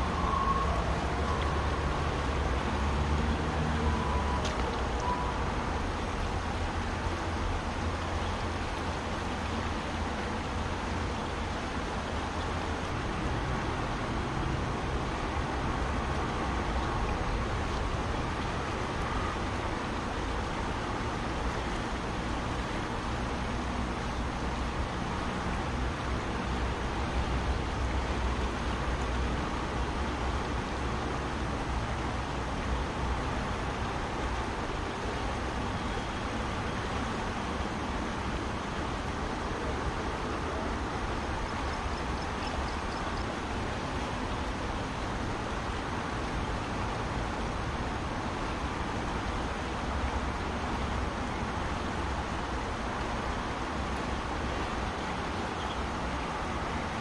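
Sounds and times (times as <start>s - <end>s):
fast-flowing river rushing: 0.0s - 57.0s.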